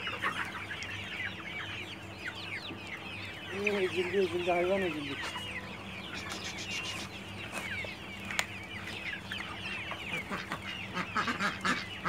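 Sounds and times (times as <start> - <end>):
chickens calling: 0.0 - 12.0.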